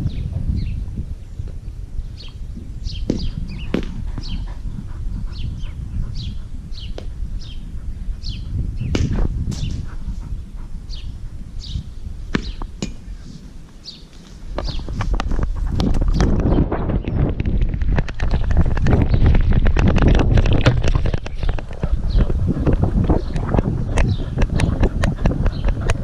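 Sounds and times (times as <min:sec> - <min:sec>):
birds chirping: 0:00.0 - 0:19.5, 0:20.4 - 0:26.0
wind rumble: 0:00.0 - 0:26.0.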